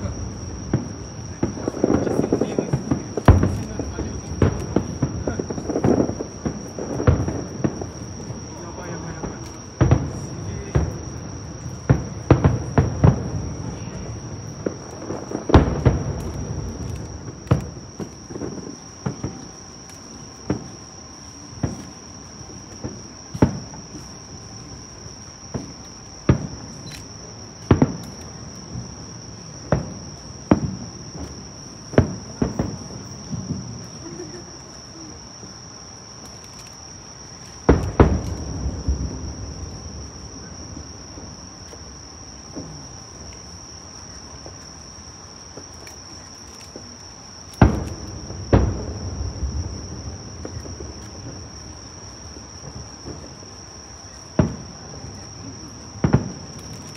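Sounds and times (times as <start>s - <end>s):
fireworks booming: 0.0s - 56.9s
insect chirring: 0.0s - 56.9s.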